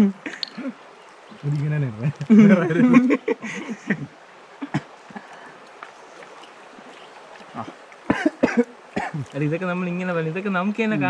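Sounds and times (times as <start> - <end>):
person speaking: 0.0 - 5.4, 7.5 - 11.0
faint outdoor hiss: 0.0 - 11.0.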